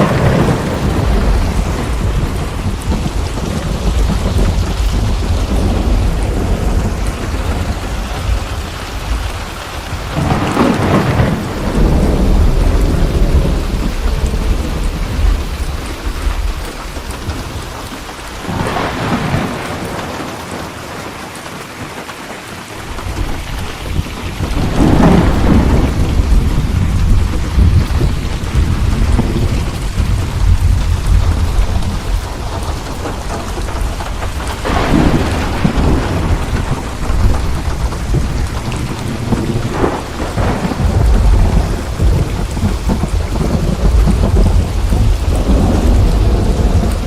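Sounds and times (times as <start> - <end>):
rolling thunder: 0.0 - 21.2, 22.8 - 47.0
steady rain: 0.0 - 47.0.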